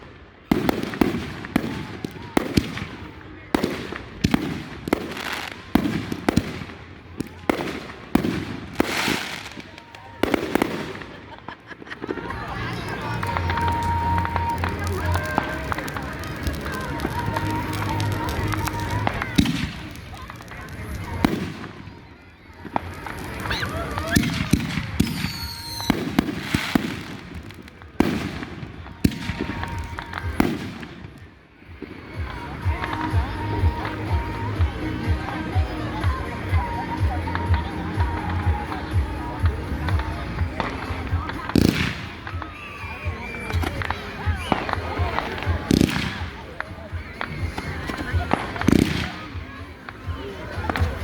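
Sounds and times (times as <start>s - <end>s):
fireworks bangs: 0.0s - 51.0s
fireworks crackling hiss: 0.0s - 51.0s.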